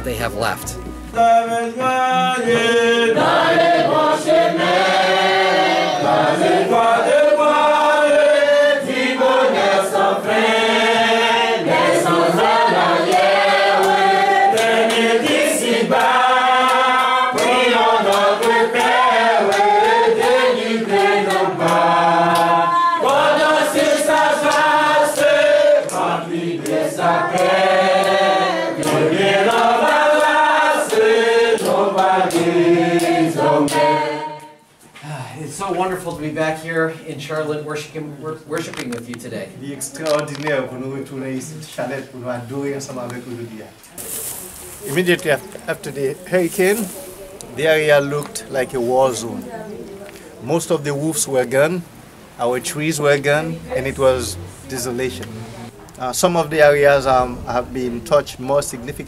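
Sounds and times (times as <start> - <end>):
group singing in church: 1.0 - 35.0, 42.6 - 59.0.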